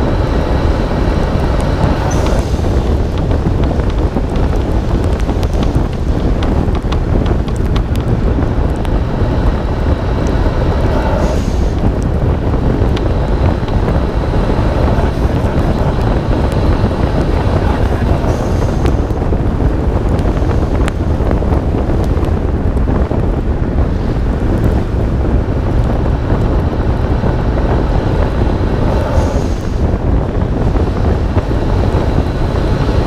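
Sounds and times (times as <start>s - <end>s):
car engine: 0.0s - 33.0s
wind buffeting microphone: 0.0s - 33.0s.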